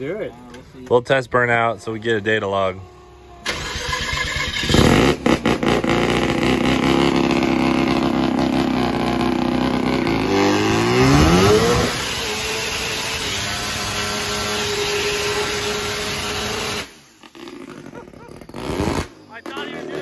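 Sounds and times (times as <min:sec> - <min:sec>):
van engine revving: 0:01.3 - 0:20.0.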